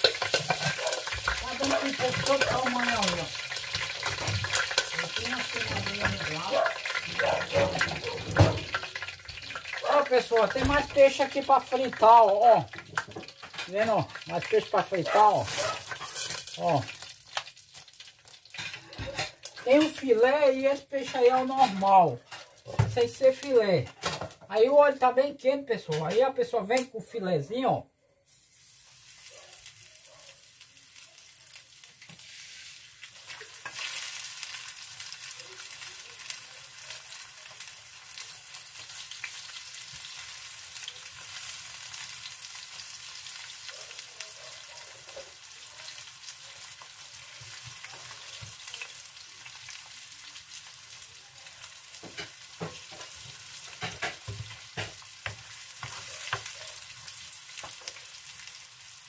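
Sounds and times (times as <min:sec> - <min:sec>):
fish sizzling in hot oil: 0:00.0 - 0:25.0, 0:28.3 - 0:59.0.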